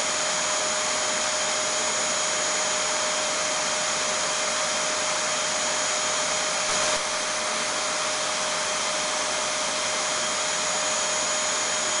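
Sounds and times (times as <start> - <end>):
vacuum cleaner motor running: 0.0 - 12.0.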